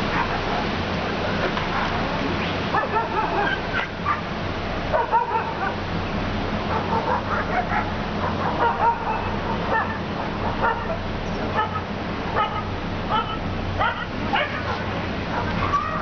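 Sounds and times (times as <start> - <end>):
dogs barking and yelping: 0.0 - 0.7, 1.6 - 5.9, 6.6 - 16.0.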